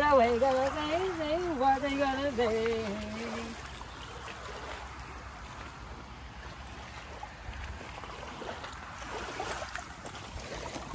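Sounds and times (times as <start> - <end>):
water lapping and trickling: 0.0 - 10.9.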